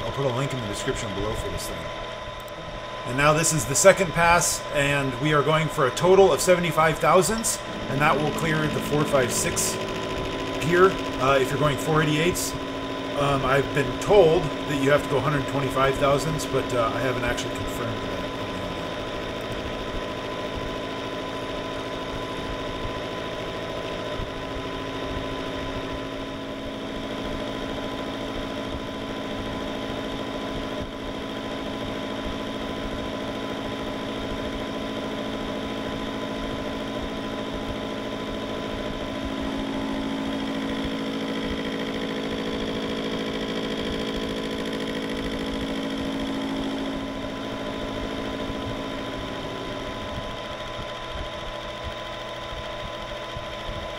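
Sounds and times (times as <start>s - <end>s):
metal lathe humming: 0.0s - 53.9s.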